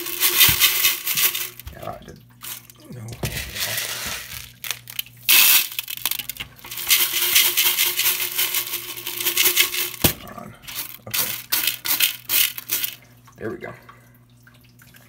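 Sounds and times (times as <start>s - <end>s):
gravel rattling into tank: 0.0s - 13.0s.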